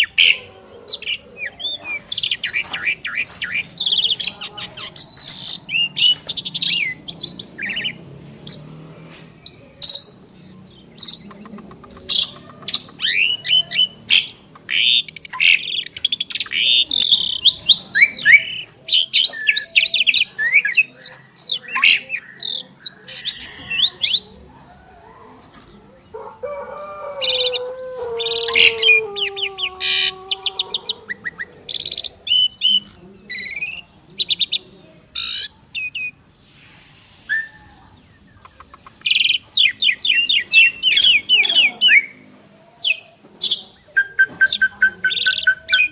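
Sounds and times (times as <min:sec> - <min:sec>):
birds singing chirps and trills: 0:00.0 - 0:45.9.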